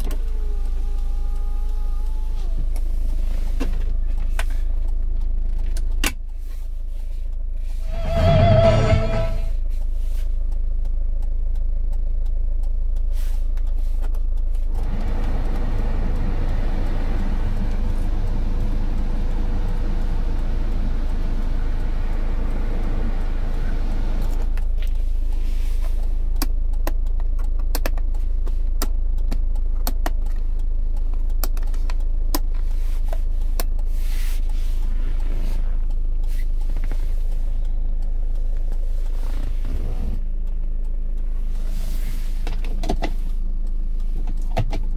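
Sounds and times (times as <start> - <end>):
diesel engine idling: 0.0 - 5.5, 7.9 - 9.8, 10.6 - 27.1, 28.2 - 44.4.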